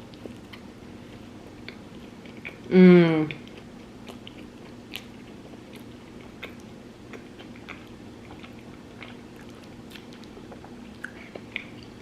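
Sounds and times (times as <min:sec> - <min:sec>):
person chewing food: 0:00.0 - 0:02.7, 0:03.3 - 0:12.0
faint low hum: 0:00.0 - 0:12.0.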